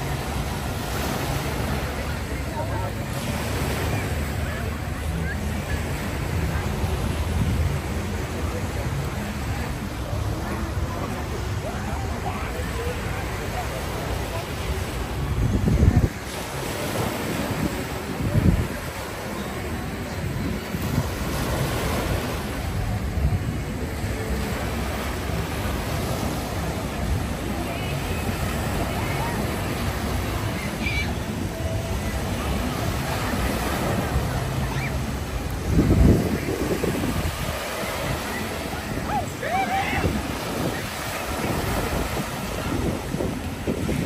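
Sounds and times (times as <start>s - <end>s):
faint voices: 0.0s - 44.0s
waves washing on beach: 0.0s - 44.0s
wind rumble on microphone: 0.0s - 44.0s.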